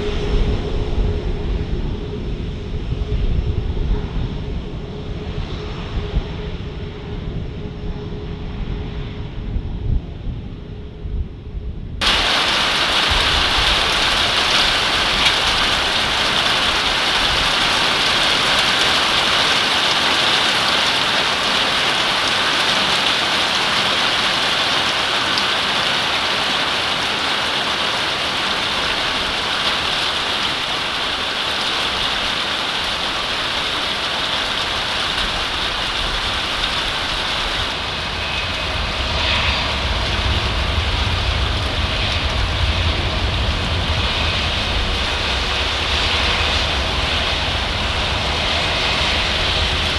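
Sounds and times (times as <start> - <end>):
jet engines roaring: 0.0 - 10.9, 12.0 - 49.9
deep engine rumble: 0.0 - 49.9.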